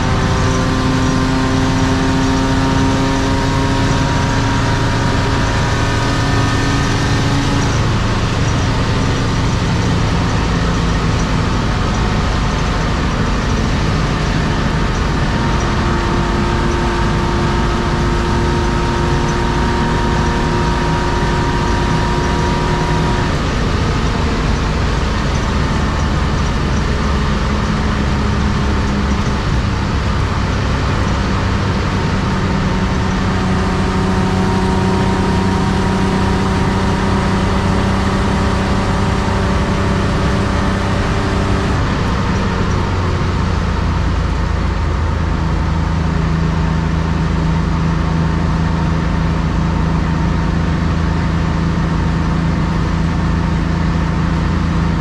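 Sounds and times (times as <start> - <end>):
car engine drone cruising: 0.0 - 55.0
road and wind noise in cabin: 0.0 - 55.0.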